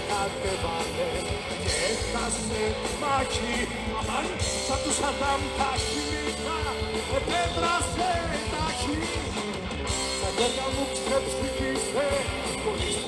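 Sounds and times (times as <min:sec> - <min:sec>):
rock music with singing: 0:00.0 - 0:13.0.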